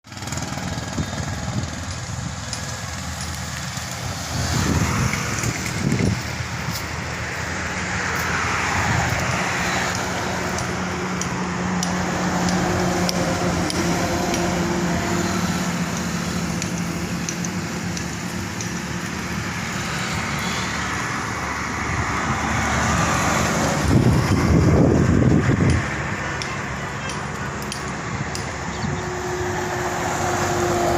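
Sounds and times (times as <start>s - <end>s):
vehicles passing: 0.0s - 30.9s.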